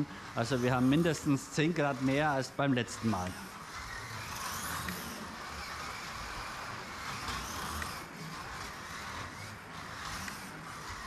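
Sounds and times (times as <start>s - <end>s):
slot car motor whining: 0.0s - 11.0s.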